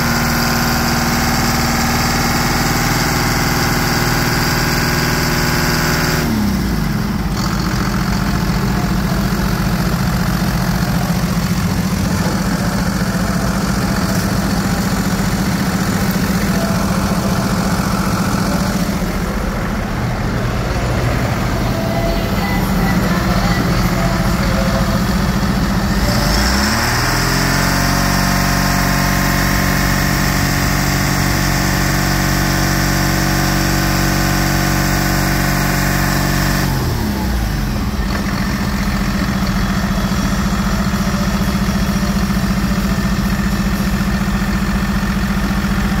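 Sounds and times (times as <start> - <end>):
diesel engine idling and revving: 0.0 - 46.0.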